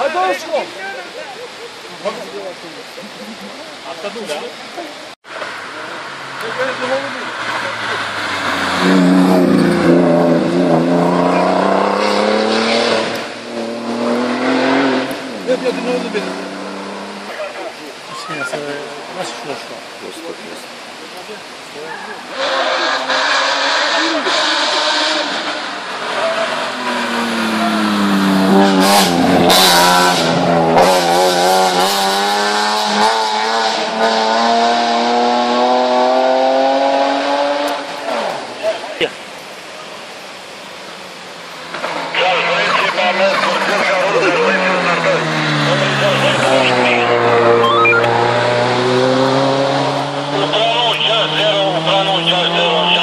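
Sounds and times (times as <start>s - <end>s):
race car engine at high revs: 5.3s - 18.0s, 20.7s - 53.0s.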